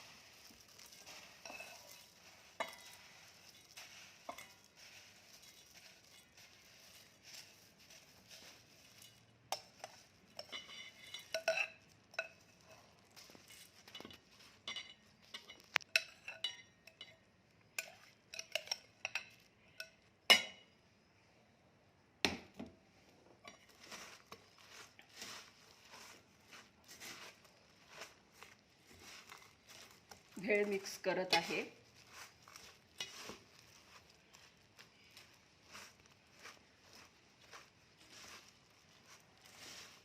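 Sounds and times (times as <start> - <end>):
puffed rice rustling in a bowl: 0.0 - 17.1, 23.4 - 40.0.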